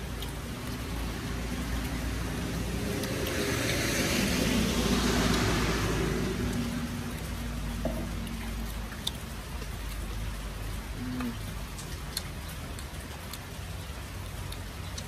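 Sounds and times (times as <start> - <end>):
steady rain: 0.0 - 15.0
vehicle passing on wet road: 0.0 - 15.0.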